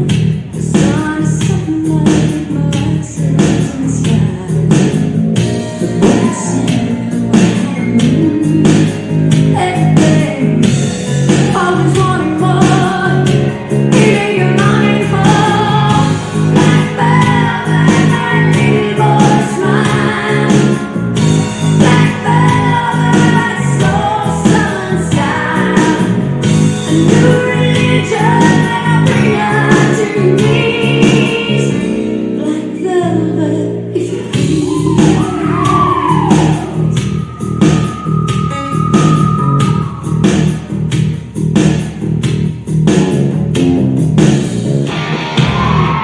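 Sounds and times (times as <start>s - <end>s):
pop music with singing: 0.0s - 46.0s.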